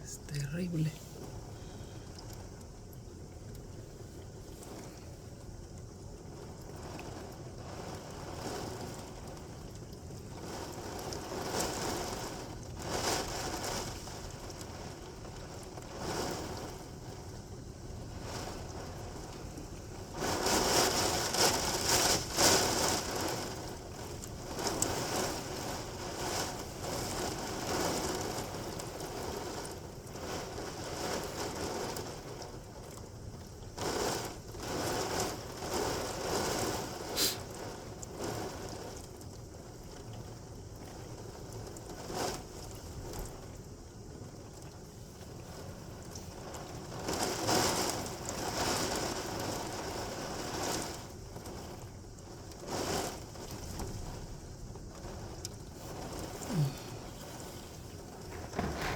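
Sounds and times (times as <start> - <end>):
torrential rain: 0.0 - 58.9.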